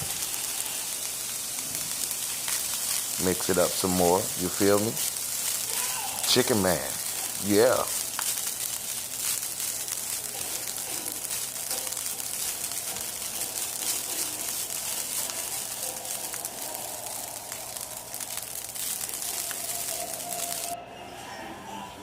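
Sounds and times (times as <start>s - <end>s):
fried rice sizzling in a pan: 0.0s - 20.8s.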